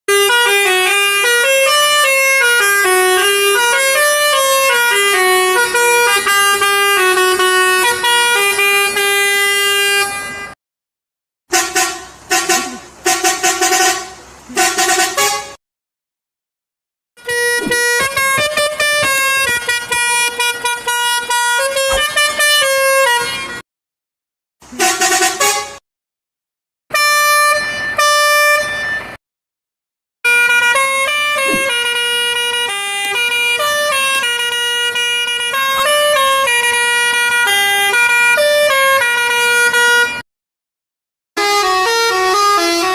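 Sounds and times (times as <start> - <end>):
musical multi-tone bus horn: 0.1 - 10.6, 11.5 - 15.6, 17.2 - 23.6, 24.6 - 25.8, 26.9 - 29.2, 30.2 - 40.2, 41.4 - 42.9.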